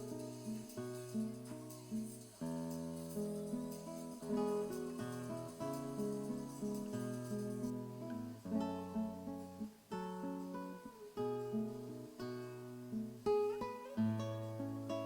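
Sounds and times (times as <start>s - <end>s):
acoustic guitar slow gentle melody: 0.0s - 15.0s.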